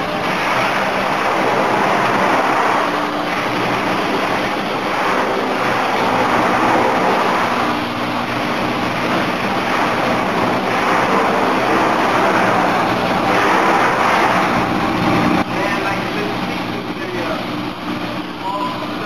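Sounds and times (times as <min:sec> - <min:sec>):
plasma cutter hissing: 0:00.0 - 0:17.3.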